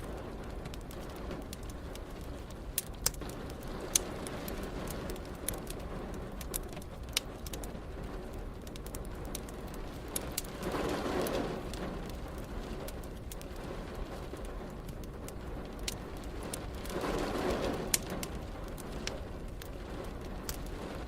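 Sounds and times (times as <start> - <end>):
fire popping and snapping: 0.0 - 21.0
low fire rumble: 0.0 - 21.0.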